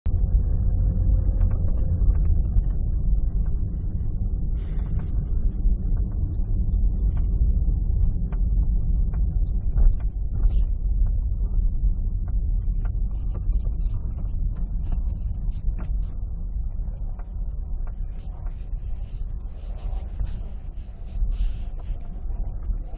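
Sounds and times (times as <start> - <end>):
car road rumble: 0.1 - 22.9.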